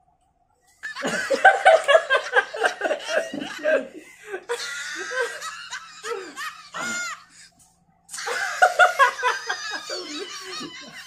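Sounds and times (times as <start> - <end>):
men laughing: 0.8 - 11.0.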